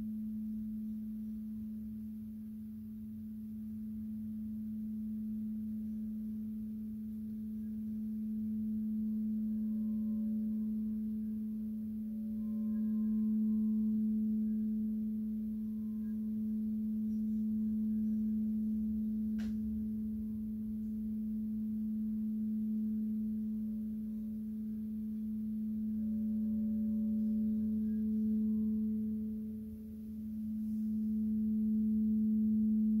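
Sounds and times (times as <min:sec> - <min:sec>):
singing bowl tone: 0:00.0 - 0:33.0.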